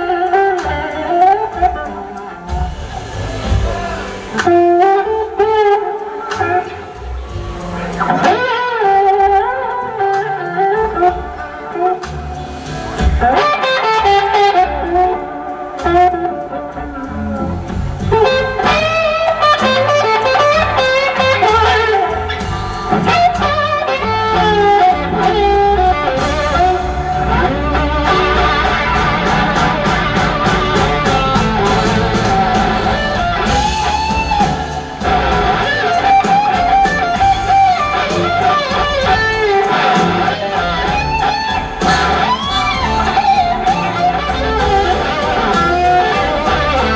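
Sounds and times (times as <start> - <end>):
blues-rock band playing: 0.0 - 46.9
electric guitar lead: 0.0 - 46.9.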